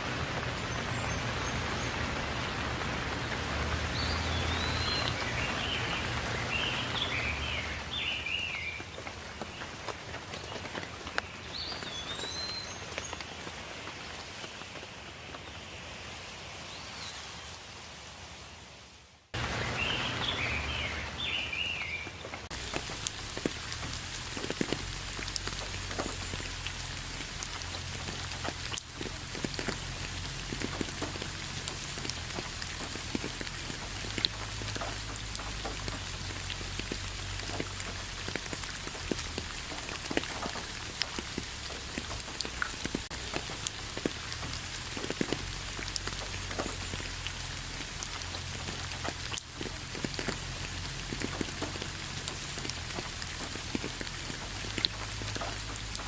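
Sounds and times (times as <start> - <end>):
raindrops ticking close by: 0.0 - 15.6, 19.3 - 56.0
steady rain falling: 0.0 - 56.0.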